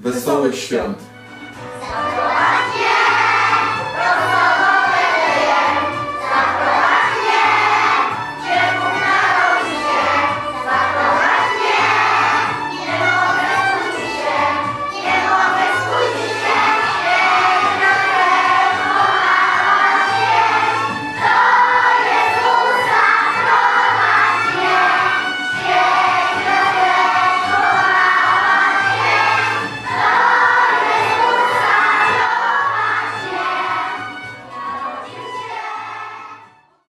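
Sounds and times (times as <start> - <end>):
violin: 0.0 - 36.9
children and women singing: 1.8 - 36.5.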